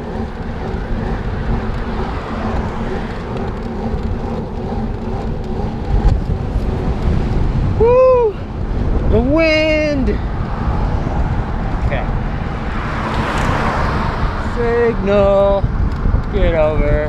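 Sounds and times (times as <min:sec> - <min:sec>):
wind and bicycle road rumble: 0:00.0 - 0:17.0.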